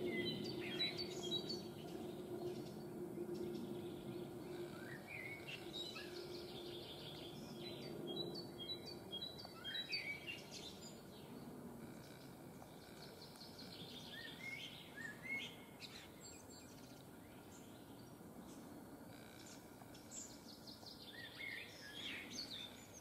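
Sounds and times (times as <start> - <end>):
faint background noise: 0.0 - 23.0
songbirds singing and calling: 0.0 - 23.0.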